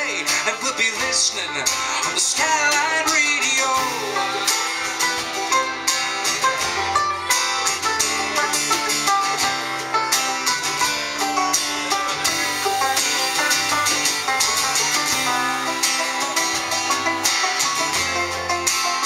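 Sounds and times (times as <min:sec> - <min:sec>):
live country band playing: 0:00.0 - 0:19.0
plucked guitars: 0:00.0 - 0:19.0
steady drum beat: 0:00.0 - 0:19.0.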